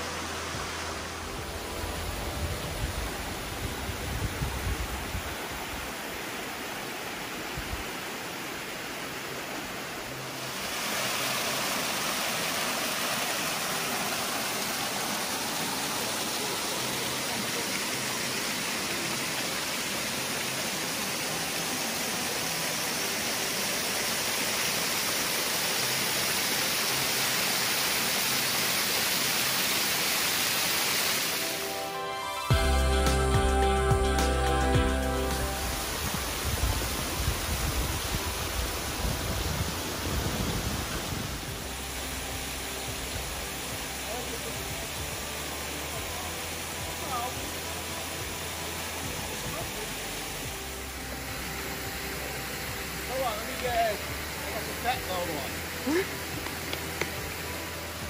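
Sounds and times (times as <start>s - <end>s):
waterfall and creek water rushing: 0.0s - 58.0s.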